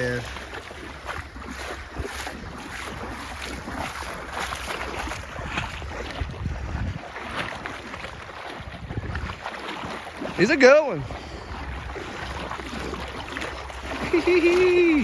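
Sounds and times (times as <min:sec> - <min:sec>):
water sloshing and splashing: 0:00.0 - 0:15.0
wind buffeting microphone: 0:00.0 - 0:15.0.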